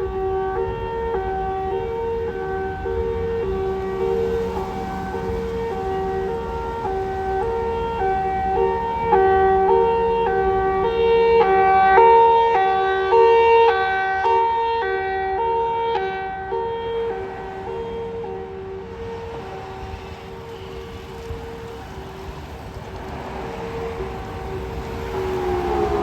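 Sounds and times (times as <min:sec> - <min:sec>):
two-tone fire truck siren: 0:00.0 - 0:26.0.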